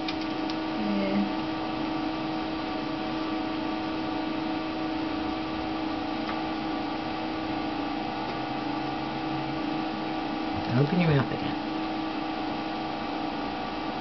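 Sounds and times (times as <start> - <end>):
electrical equipment hum: 0.0 - 14.0.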